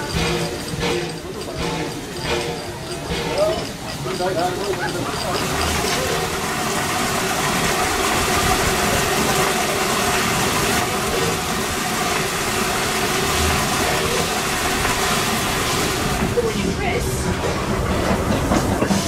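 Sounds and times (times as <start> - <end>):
water pouring into steel drum: 0.0 - 18.0.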